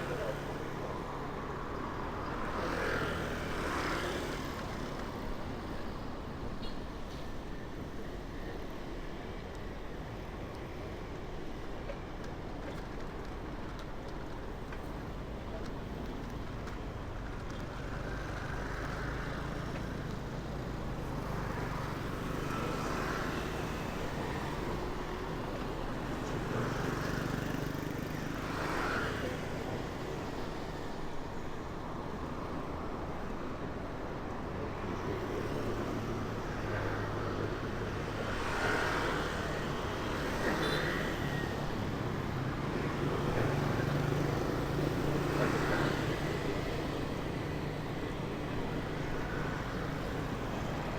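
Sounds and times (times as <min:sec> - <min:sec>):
vehicles passing by: 0:00.0 - 0:08.8, 0:14.0 - 0:50.9
traffic hum and road noise: 0:00.0 - 0:50.9.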